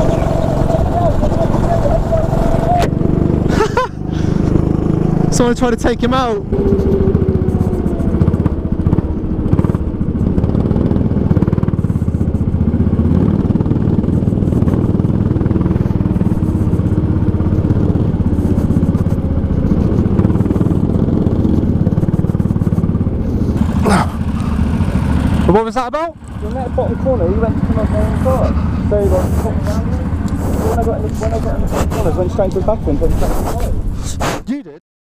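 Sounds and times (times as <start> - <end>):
go-kart engine running: 0.0 - 34.0.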